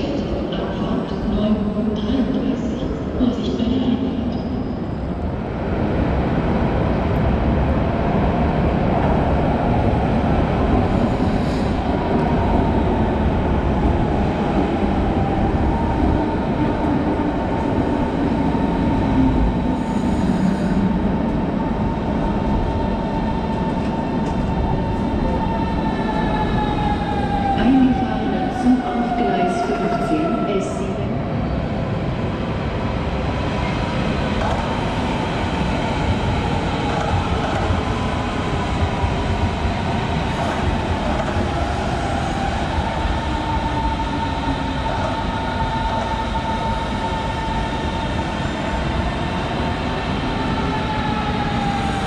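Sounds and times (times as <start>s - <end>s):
electric train rumble and whine: 0.0s - 52.0s.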